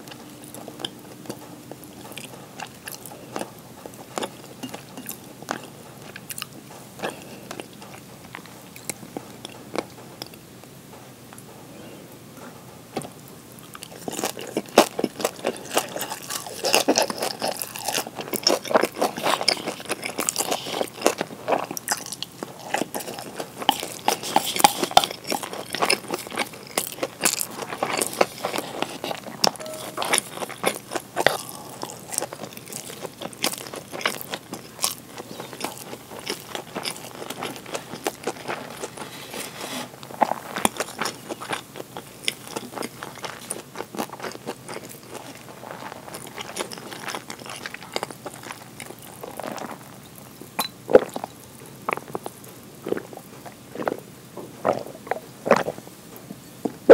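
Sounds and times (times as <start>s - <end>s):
crunchy wet chewing: 0.0s - 10.5s, 13.0s - 56.9s.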